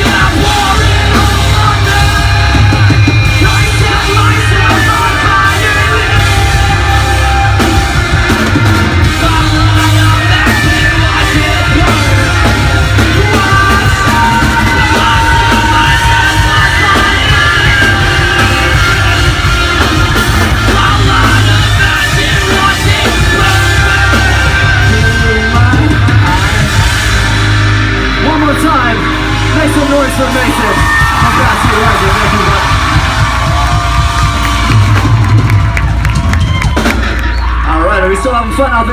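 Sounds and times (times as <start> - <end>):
singer yelling vocals: 0.0 - 27.3, 28.1 - 35.0
live rock band playing: 0.0 - 38.9.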